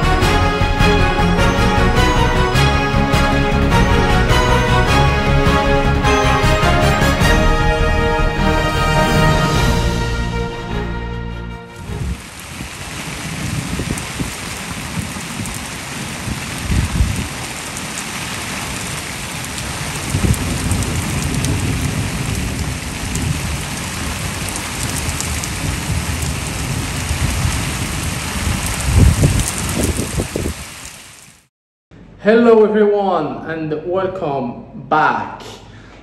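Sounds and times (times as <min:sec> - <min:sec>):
heavy rain falling: 0:00.0 - 0:10.9, 0:11.7 - 0:31.5.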